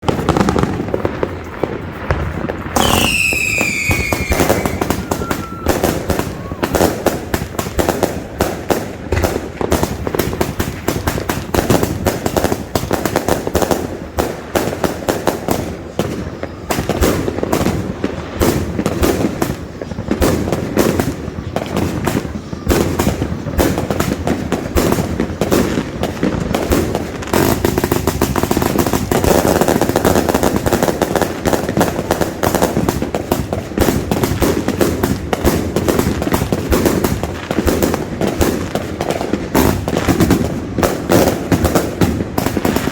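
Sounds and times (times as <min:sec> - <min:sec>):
fireworks shots bursting: 0:00.0 - 0:42.9.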